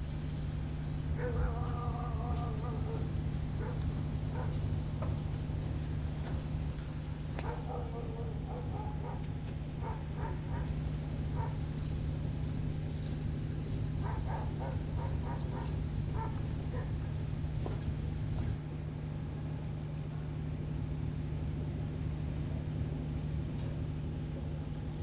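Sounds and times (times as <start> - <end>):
crickets chirping: 0.0 - 25.0
low steady hum: 0.0 - 25.0.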